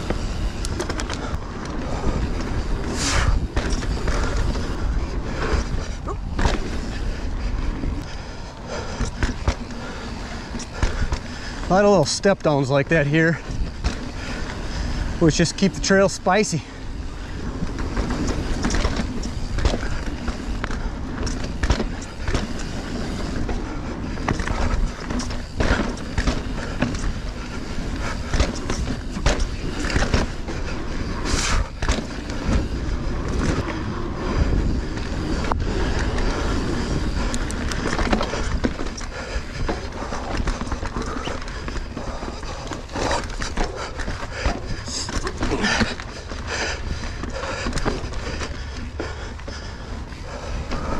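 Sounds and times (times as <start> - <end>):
bike knocks and rattles: 0.0 - 50.9
bike tyre rumble on dirt: 0.0 - 50.9
wind buffeting microphone: 0.0 - 50.9.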